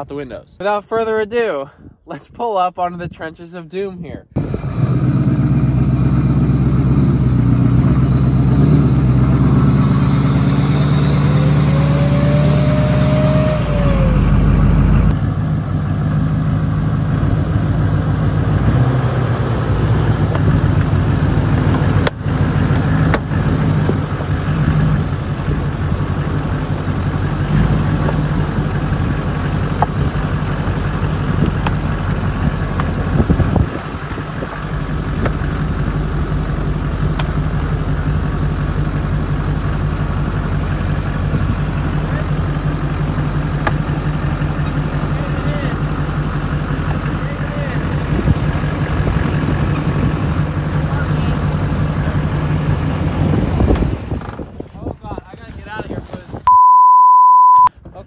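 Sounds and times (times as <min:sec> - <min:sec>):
truck engine running: 0:04.4 - 0:55.8.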